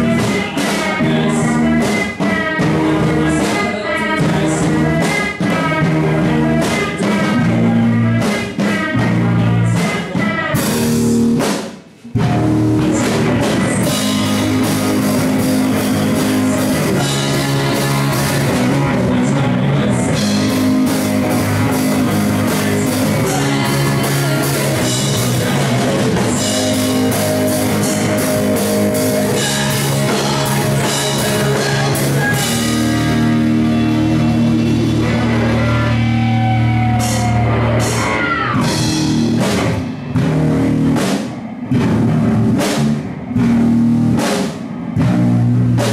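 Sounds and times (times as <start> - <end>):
drum kit: 0.0 - 45.9
electric guitar: 0.0 - 45.9
rock band playing: 0.0 - 45.9.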